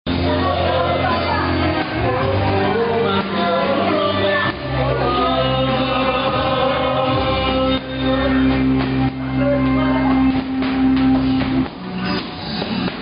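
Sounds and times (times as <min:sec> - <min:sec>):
sustained bass notes: 0:00.0 - 0:13.0
music with singing: 0:00.1 - 0:13.0.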